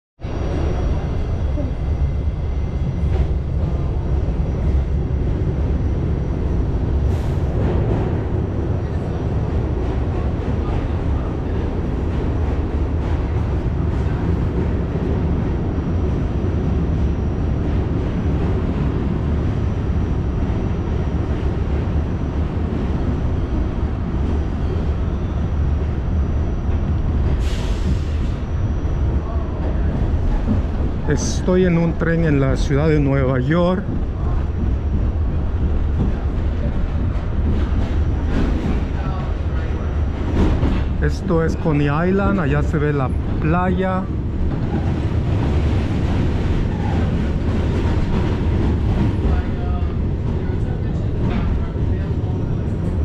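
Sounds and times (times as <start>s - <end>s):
subway train rumble: 0.2s - 53.0s.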